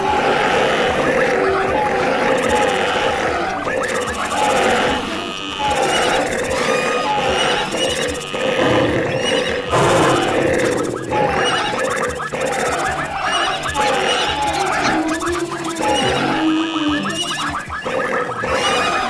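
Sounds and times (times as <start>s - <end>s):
animal calls: 0.0s - 19.0s
background music: 0.0s - 19.0s
horses whinnying: 0.0s - 19.0s.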